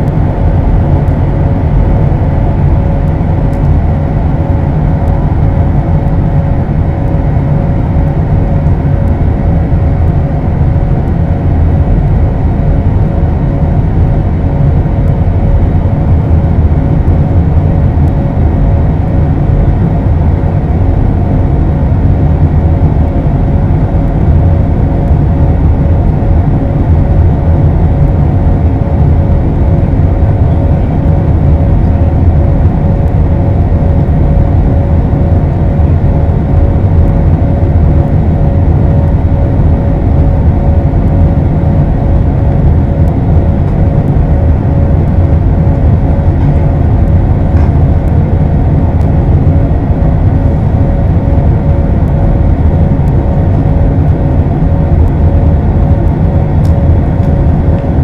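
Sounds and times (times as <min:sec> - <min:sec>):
jet cabin engine and airflow noise: 0:00.0 - 0:58.0
thin steady whine: 0:00.0 - 0:58.0.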